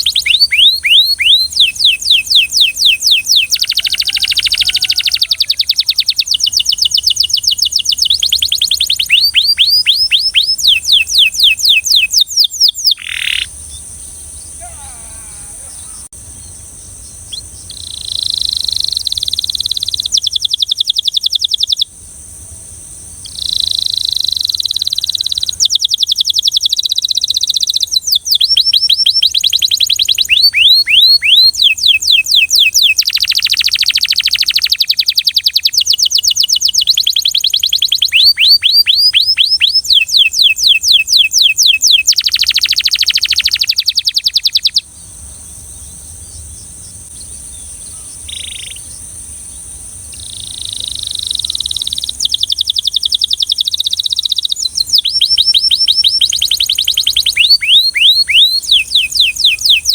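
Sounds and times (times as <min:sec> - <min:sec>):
canary singing: 0:00.0 - 0:21.9, 0:23.2 - 0:45.0, 0:45.6 - 0:49.2, 0:50.0 - 0:59.9.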